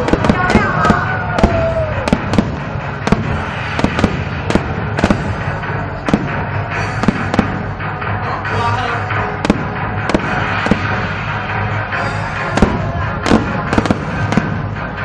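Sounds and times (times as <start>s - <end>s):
fireworks bangs: 0.0s - 8.0s, 9.3s - 15.0s
background din: 0.0s - 15.0s.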